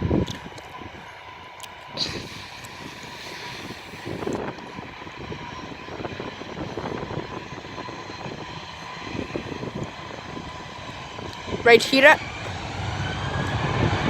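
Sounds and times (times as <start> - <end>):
faint engine whine: 0.0 - 14.0
jet engines roaring: 0.0 - 14.0.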